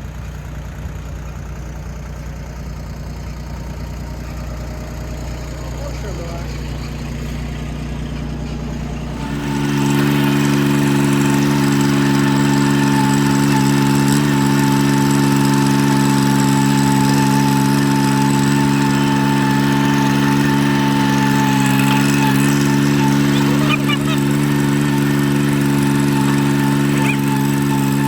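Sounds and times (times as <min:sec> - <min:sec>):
engine revving: 0:00.0 - 0:28.0
thin steady whine: 0:02.1 - 0:28.0.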